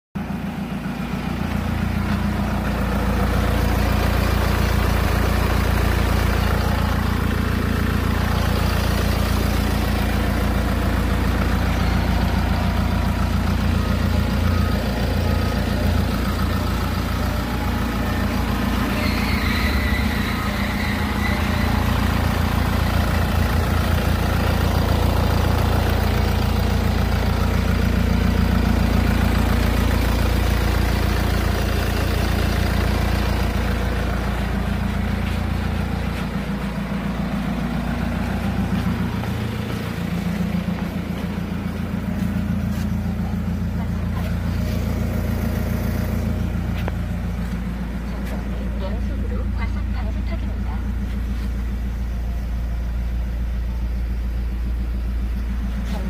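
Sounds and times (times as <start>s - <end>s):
car engine idling: 0.2s - 56.0s.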